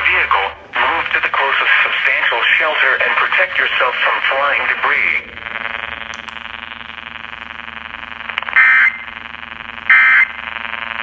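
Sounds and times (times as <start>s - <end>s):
steady buzzing hum: 0.0s - 11.0s.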